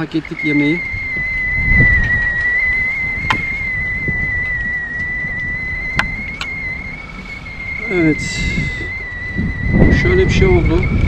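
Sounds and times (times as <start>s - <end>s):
kettle whistling: 0.0s - 11.0s
wind on microphone: 0.0s - 11.0s.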